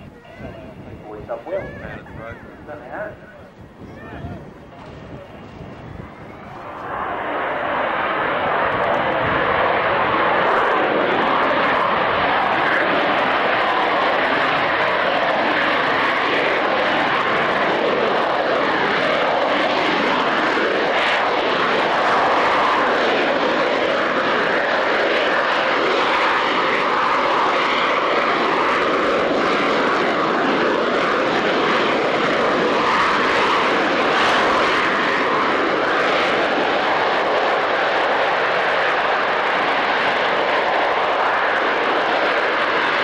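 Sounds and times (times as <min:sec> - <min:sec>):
jet engine roaring: 0:00.0 - 0:43.0.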